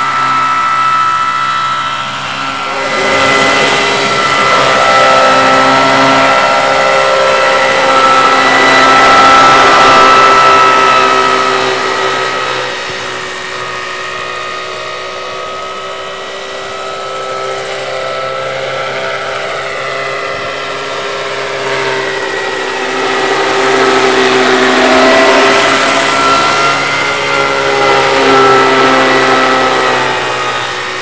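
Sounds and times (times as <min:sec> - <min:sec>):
model helicopter whine: 0:00.0 - 0:31.0.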